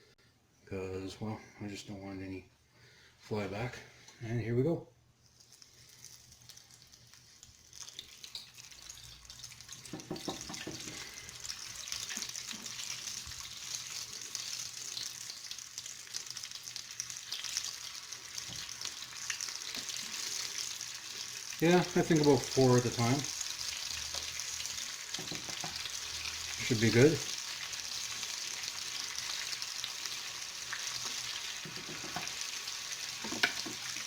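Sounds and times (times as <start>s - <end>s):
falafel sizzling in hot oil: 5.2s - 34.0s.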